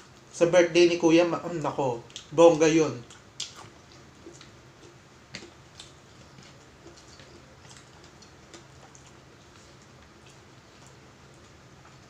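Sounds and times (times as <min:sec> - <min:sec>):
faint low hum: 0:00.0 - 0:12.0
quiet eating clicks: 0:01.6 - 0:12.0.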